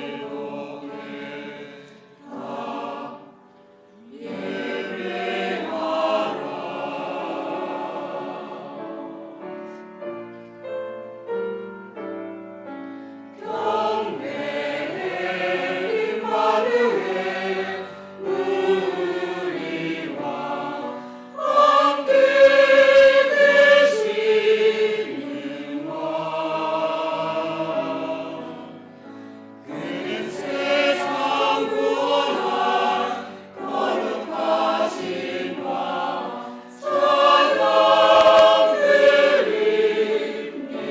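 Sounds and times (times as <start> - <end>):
choir singing with accompaniment: 0.0 - 10.2, 13.0 - 40.9.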